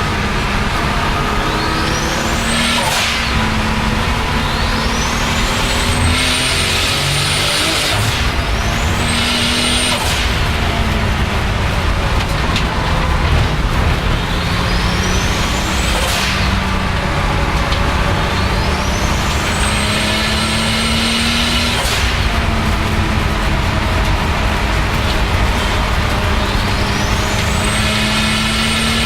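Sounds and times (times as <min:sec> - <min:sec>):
car engine pulling hard: 0:00.0 - 0:29.0.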